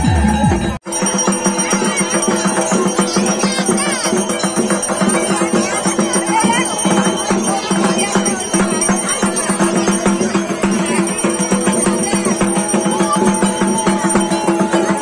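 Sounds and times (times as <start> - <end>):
rapid drum strokes: 0.0 - 15.0
bell strokes: 0.1 - 15.0.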